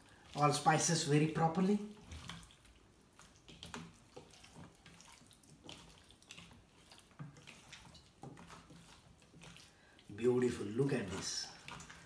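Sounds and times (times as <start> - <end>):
wet squelches of kneading chicken: 0.0 - 12.0.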